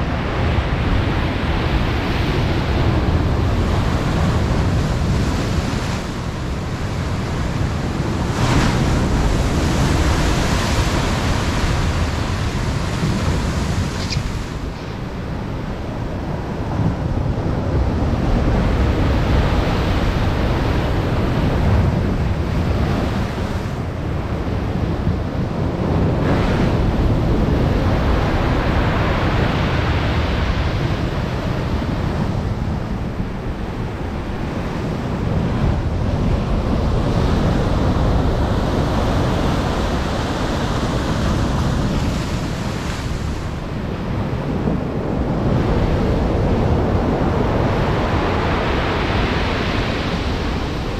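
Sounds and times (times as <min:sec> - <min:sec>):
heavy waves breaking: 0:00.0 - 0:50.9
wind buffeting microphone: 0:00.0 - 0:50.9.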